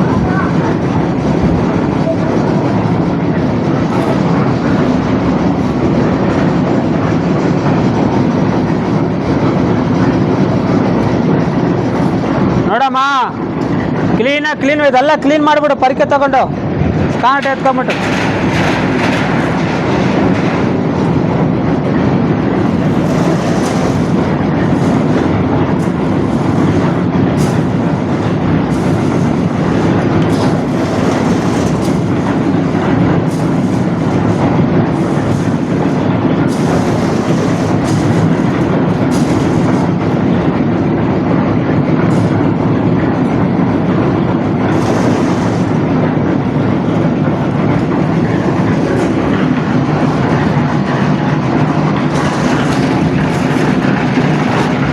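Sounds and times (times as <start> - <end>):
heavy construction machinery running: 0.0 - 54.9.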